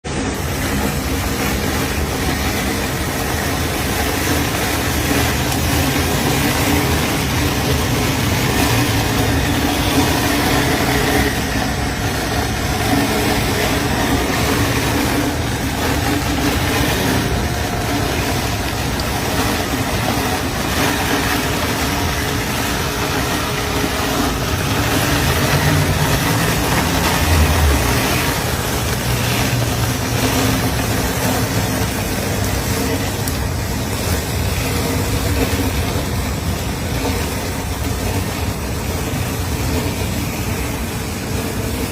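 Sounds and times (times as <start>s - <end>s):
motor running with whir: 0.1s - 41.9s.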